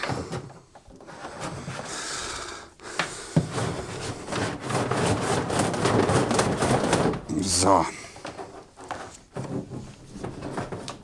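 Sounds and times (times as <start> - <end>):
cables rustling and rubbing: 0.0 - 11.0.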